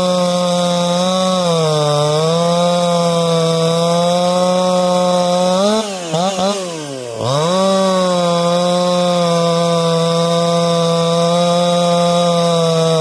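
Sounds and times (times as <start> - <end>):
chainsaw cutting a log: 0.0 - 13.0.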